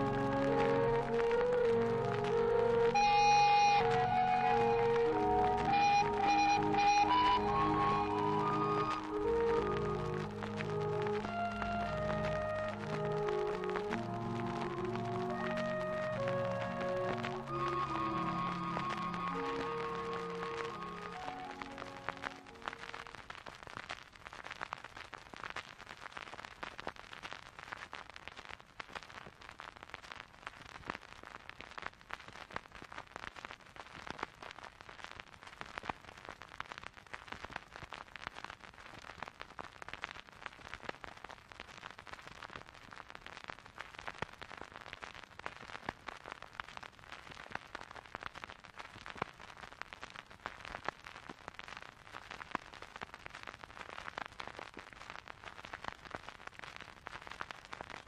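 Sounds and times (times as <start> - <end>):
dense crackling noise: 0.0 - 58.0.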